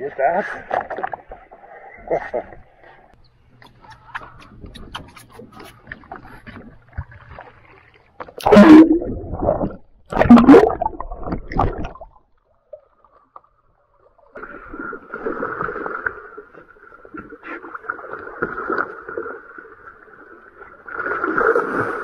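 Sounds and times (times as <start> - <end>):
water splashing against hull: 3.6 - 22.0.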